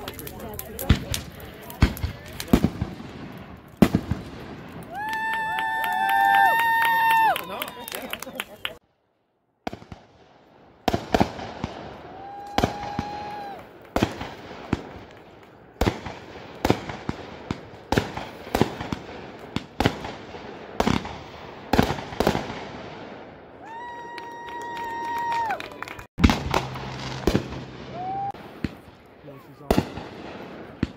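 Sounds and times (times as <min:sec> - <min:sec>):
fireworks launching and bursting: 0:00.0 - 0:08.8, 0:09.6 - 0:30.9.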